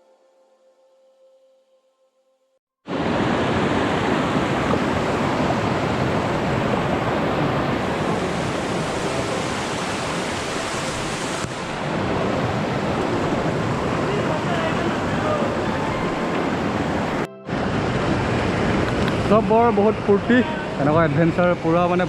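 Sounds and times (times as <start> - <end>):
fast-flowing water rushing: 2.9 - 22.0.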